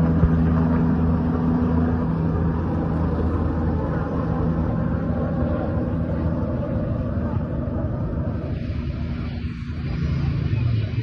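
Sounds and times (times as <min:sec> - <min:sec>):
helicopter humming: 0:00.0 - 0:11.0
rushing noise: 0:00.0 - 0:11.0.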